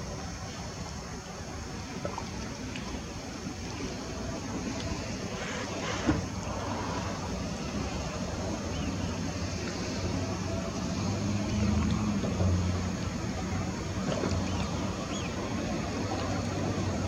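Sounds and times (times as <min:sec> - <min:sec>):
outdoor background noise: 0:00.0 - 0:17.0
passing motor engine hum: 0:00.0 - 0:17.0.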